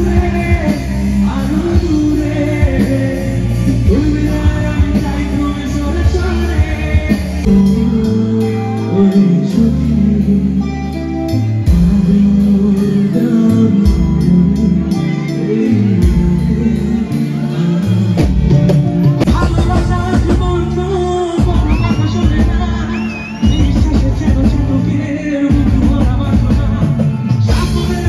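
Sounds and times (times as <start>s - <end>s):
live pop-rock band: 0.0s - 28.0s
man singing into microphone: 0.0s - 28.0s.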